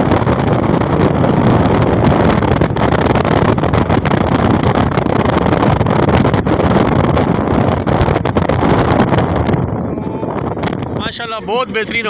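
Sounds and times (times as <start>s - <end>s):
car engine: 0.0s - 12.0s
road noise: 0.0s - 12.0s
wind buffeting microphone: 0.0s - 12.0s.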